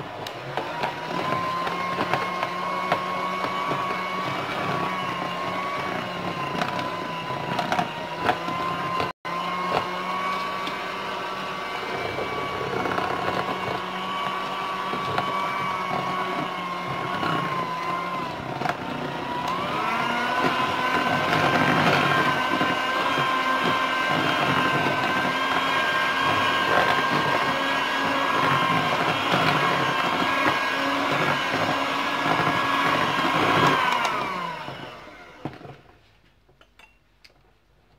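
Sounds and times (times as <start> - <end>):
electric hand mixer whining: 0.0 - 36.0.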